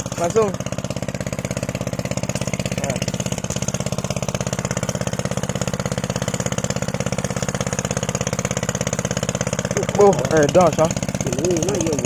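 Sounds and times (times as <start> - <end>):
engine chugging: 0.0 - 12.0.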